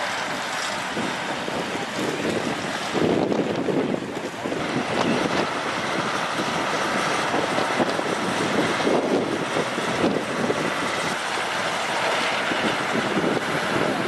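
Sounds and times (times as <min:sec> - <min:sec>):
heavy truck engine running: 0:00.0 - 0:14.0
rushing water: 0:00.0 - 0:14.0
wind buffeting microphone: 0:00.0 - 0:14.0.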